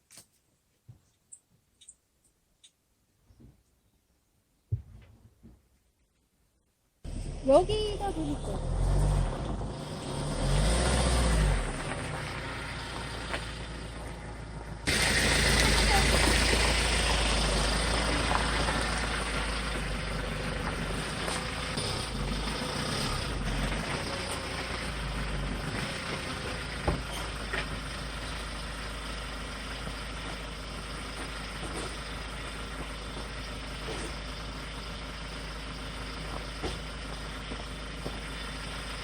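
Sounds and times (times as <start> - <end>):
truck engine idling: 7.0 - 39.0.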